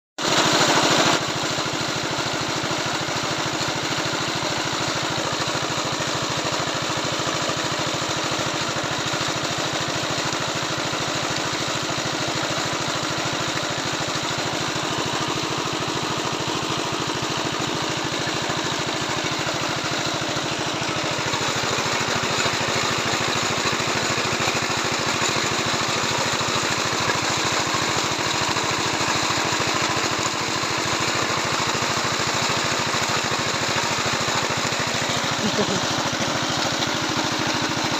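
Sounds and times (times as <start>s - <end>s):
water pump engine running: 0.2s - 37.9s.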